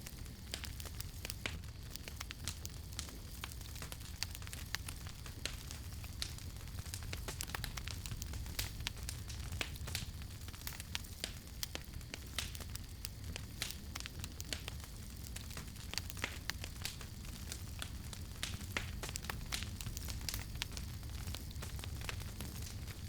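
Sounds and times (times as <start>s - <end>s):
low rumble of flames: 0.0s - 23.0s
wood crackling and popping: 0.0s - 23.0s.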